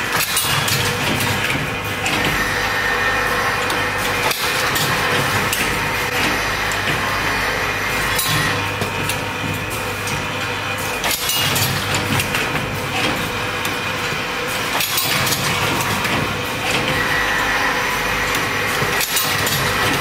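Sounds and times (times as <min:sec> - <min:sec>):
machine mechanical running noise: 0:00.0 - 0:20.0.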